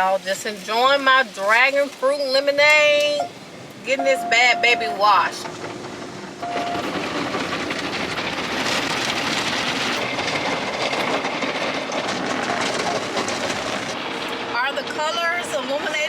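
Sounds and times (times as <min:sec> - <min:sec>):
car wash equipment working: 0:02.7 - 0:16.0.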